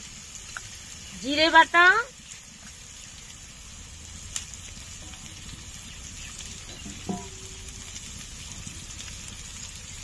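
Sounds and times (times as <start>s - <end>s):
paste sizzling in oil: 0.0s - 10.0s.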